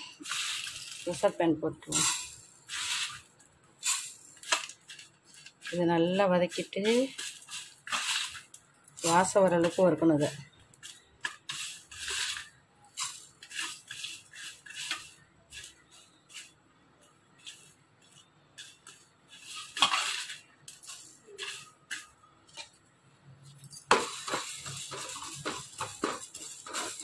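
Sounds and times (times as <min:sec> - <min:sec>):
spatula stirring seeds in pan: 0:00.0 - 0:22.9, 0:23.9 - 0:27.0
seeds ticking and crackling in pan: 0:00.0 - 0:27.0.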